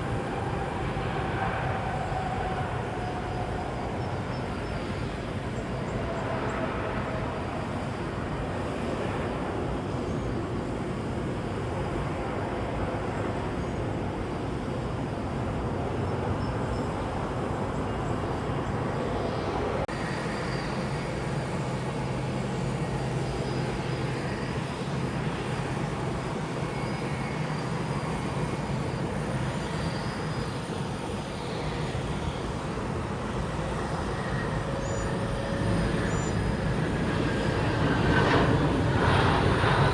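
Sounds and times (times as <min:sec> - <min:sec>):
jet engines running: 0:00.0 - 0:39.9
low hum with high whine: 0:00.0 - 0:39.9.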